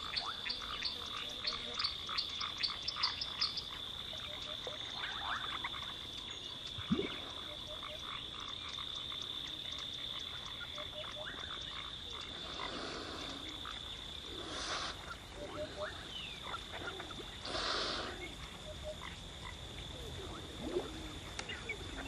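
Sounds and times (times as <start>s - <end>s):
frogs calling in chorus: 0.0s - 22.0s.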